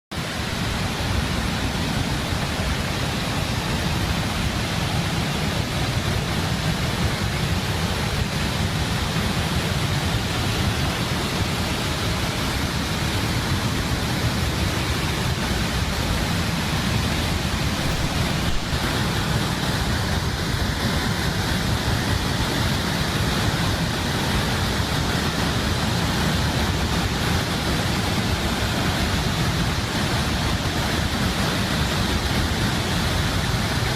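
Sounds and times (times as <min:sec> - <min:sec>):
floodwater roaring through spillways: 0:00.1 - 0:33.9.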